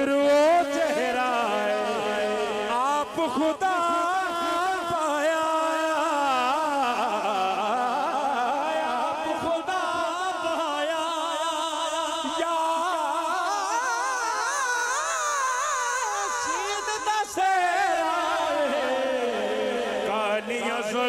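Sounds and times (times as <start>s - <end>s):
man singing over loudspeaker: 0.0s - 21.0s.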